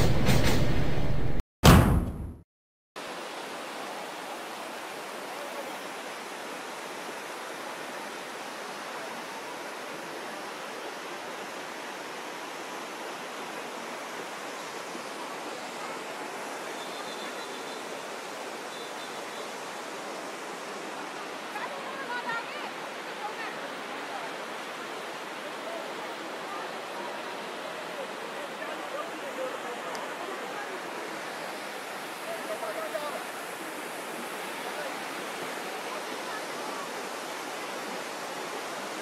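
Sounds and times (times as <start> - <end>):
fast turbulent river rushing: 3.0 - 39.0.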